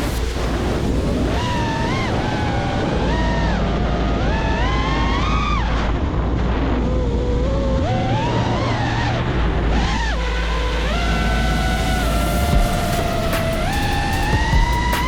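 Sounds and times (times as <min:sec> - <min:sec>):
steady low bass: 0:00.0 - 0:15.0.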